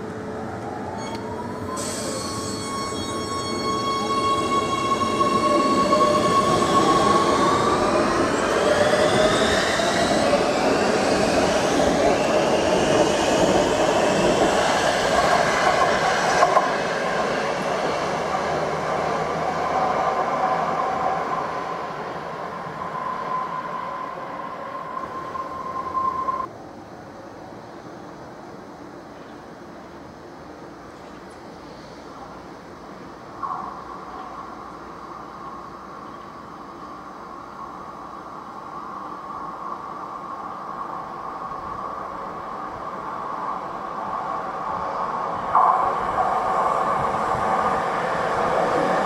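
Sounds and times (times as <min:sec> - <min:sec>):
rumble of wheels on rail: 0:00.0 - 0:49.0.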